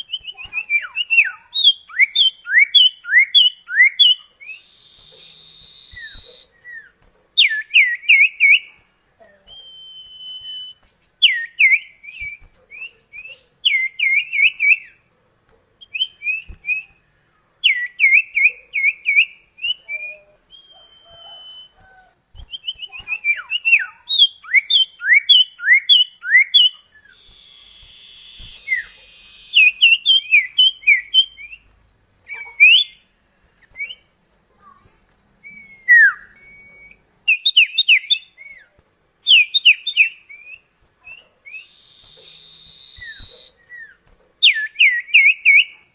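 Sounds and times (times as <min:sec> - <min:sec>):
bird singing chirps: 0:00.0 - 0:15.1, 0:15.8 - 0:45.9.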